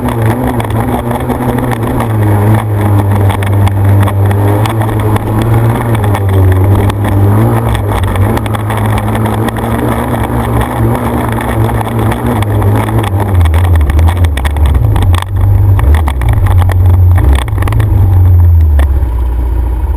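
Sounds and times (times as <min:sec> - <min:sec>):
off-road vehicle engine droning: 0:00.0 - 0:19.9.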